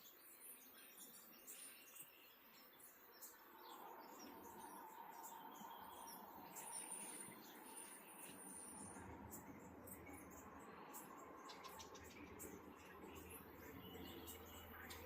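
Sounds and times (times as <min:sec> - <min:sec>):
bird chirps: 0:00.0 - 0:15.0
low background rush: 0:02.7 - 0:15.0.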